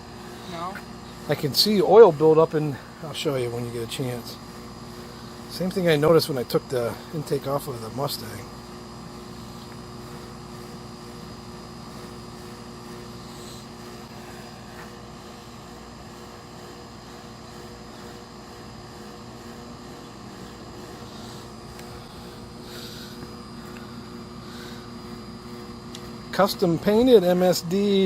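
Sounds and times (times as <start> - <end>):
steady mechanical drone: 0.0 - 28.0.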